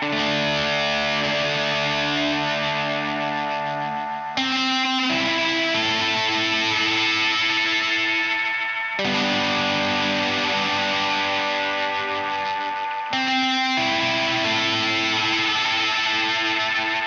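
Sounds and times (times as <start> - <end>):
fuzzed electric guitar: 0.0 - 17.0.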